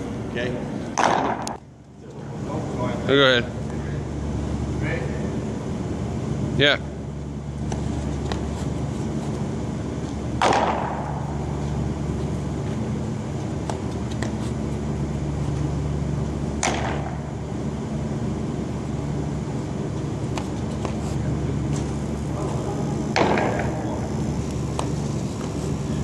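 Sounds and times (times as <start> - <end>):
ventilation hum: 0.0 - 26.0.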